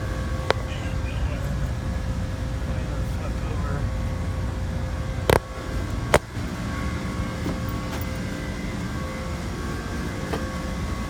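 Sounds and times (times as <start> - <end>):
refrigeration machinery humming: 0.0 - 11.0.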